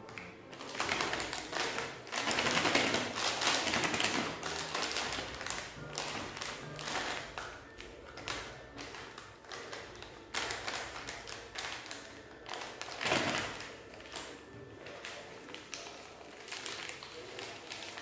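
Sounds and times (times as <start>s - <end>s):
plastic packets crinkling: 0.0s - 18.0s.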